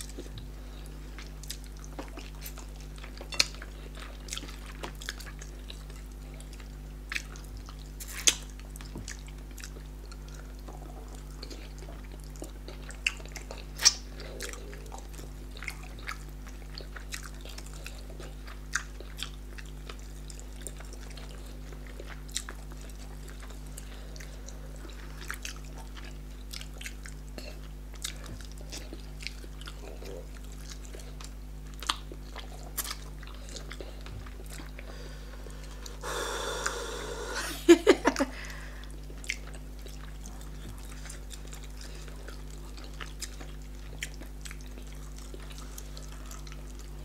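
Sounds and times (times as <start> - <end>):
wet chewing: 0.0 - 36.8, 38.1 - 47.0
steady low hum: 0.0 - 47.0.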